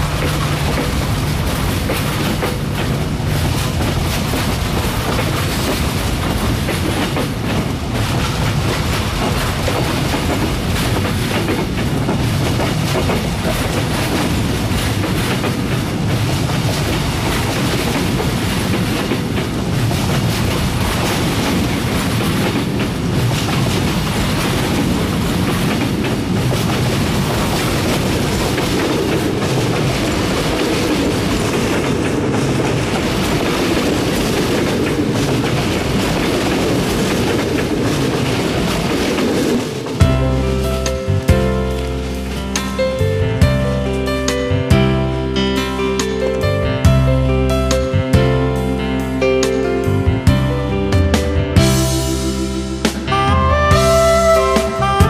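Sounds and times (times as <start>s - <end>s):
wheels knocking over rail joints: 0.0s - 44.6s
train coaches rumbling past: 0.0s - 55.0s.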